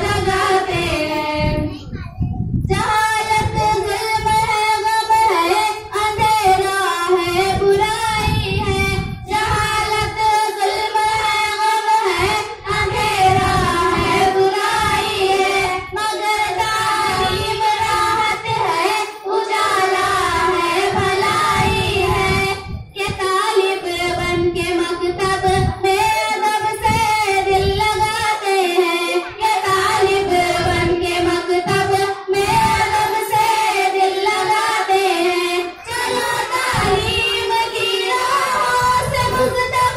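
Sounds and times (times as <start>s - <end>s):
girls singing into microphones: 0.0s - 1.7s, 2.4s - 39.9s.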